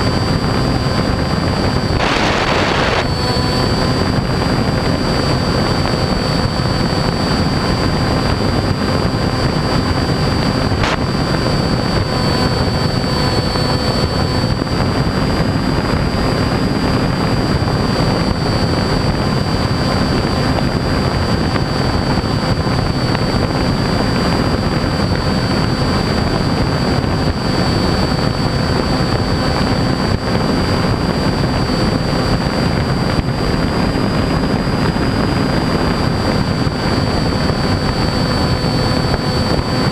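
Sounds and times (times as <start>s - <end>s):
model airplane motor whine: 0.0s - 39.9s
wind rush on microphone: 0.0s - 39.9s.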